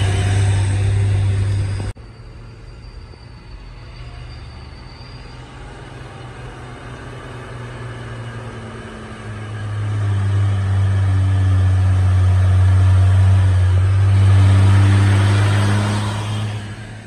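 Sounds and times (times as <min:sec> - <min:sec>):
truck diesel engine: 0:00.0 - 0:17.0
tyre and road noise: 0:00.0 - 0:17.0.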